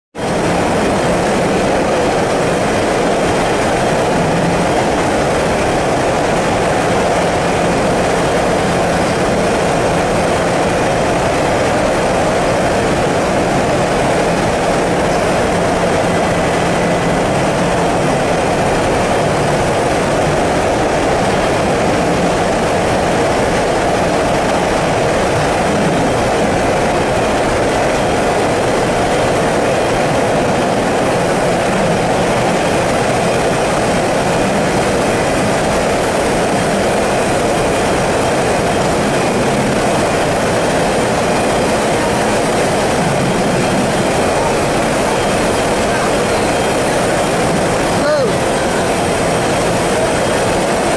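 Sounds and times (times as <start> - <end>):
machinery mechanical drone: 0.2 - 50.9.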